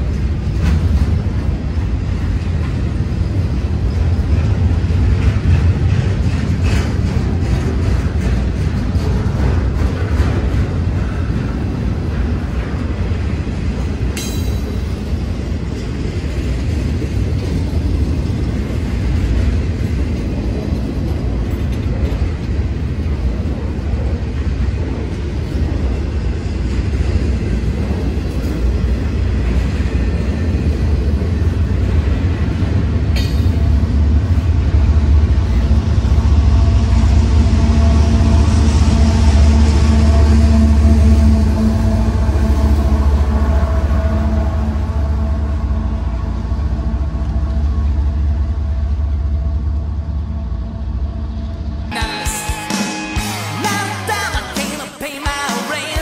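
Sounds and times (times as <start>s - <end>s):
diesel locomotive engine drone: 0.0s - 55.3s
train wheels rumbling on rail: 0.0s - 56.0s.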